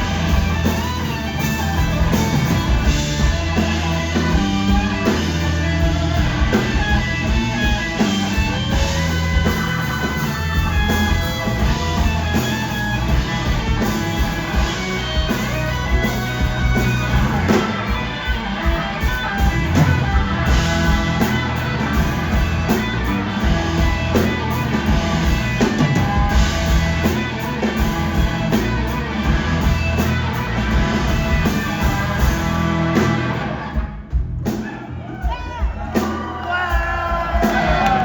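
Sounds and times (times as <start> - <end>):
drum kit: 0.0 - 38.0
guitar: 0.0 - 38.0.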